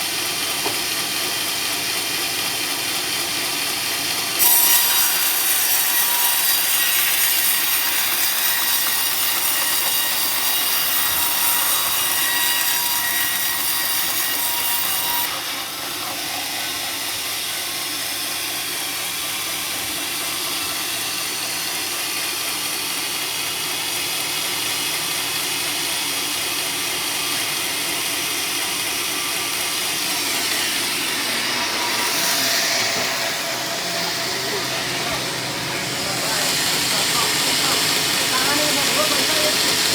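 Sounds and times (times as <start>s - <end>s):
saw cutting through log: 0.0s - 39.9s
saw running: 0.0s - 39.9s.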